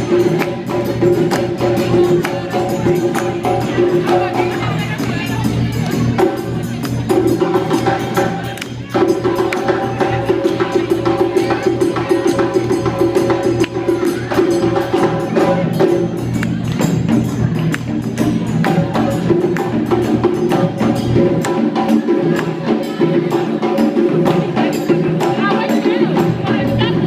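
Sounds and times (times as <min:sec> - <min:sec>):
drum ensemble fast rhythm: 0:00.0 - 0:27.0.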